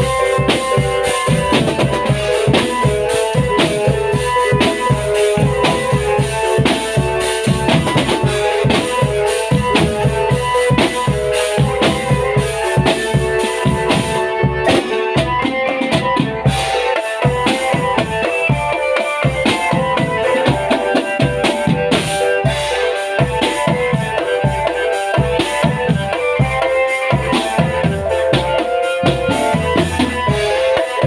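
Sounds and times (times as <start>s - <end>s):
melody of held notes: 0.0s - 31.0s.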